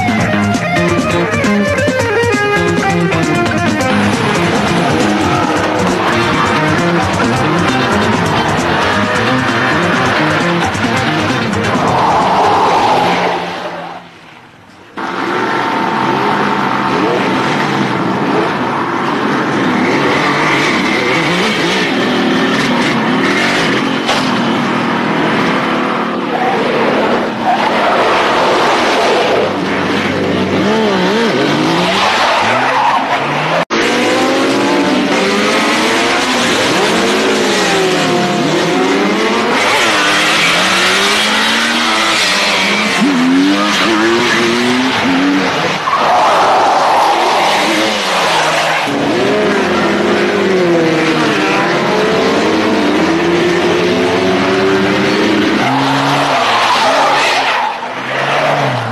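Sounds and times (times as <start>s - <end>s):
motorcycle engines revving: 0.0s - 13.8s, 14.9s - 58.9s.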